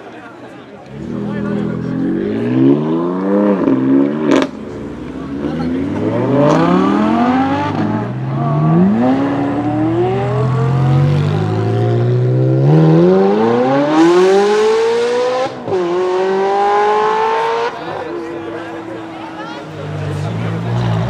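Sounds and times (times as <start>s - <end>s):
sports car engine revving: 0.9s - 21.0s.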